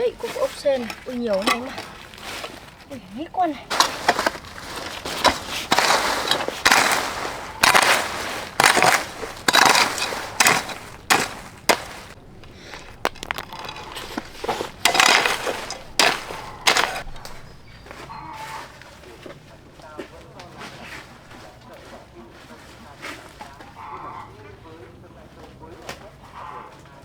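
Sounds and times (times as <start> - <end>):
leafy plants rustling: 0.0 - 27.0.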